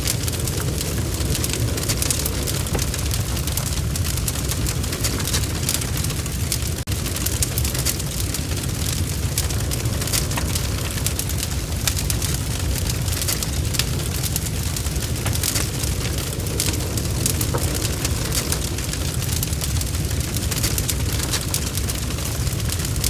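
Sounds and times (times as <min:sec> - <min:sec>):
low rumble: 0:00.0 - 0:23.0
rain pattering: 0:00.0 - 0:23.0
wood fire crackling and popping: 0:00.0 - 0:23.0.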